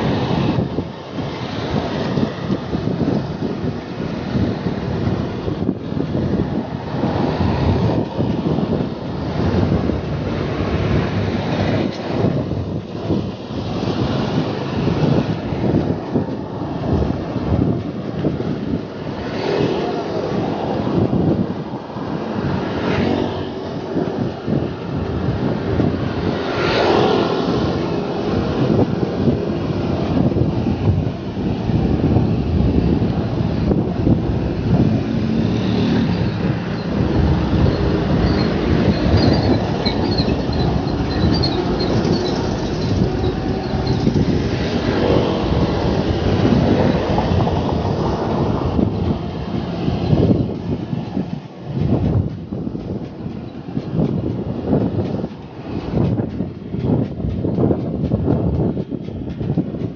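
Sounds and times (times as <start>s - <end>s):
road traffic passing: 0.0s - 59.9s
wind buffeting microphone: 0.0s - 59.9s.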